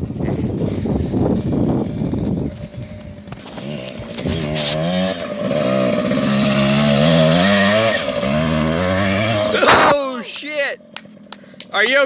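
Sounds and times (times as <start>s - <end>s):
dirt bike engine revving: 0.0s - 11.3s.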